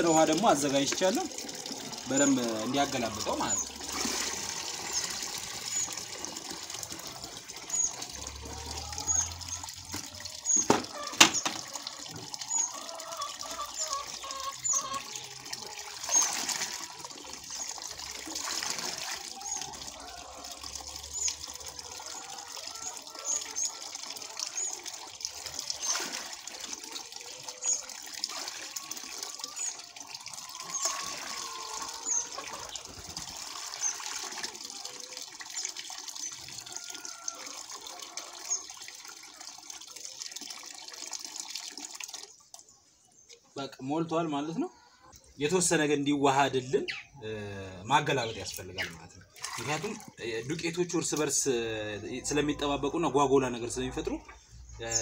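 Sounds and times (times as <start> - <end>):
water splashing into plastic bucket: 0.0 - 42.7, 48.5 - 51.4.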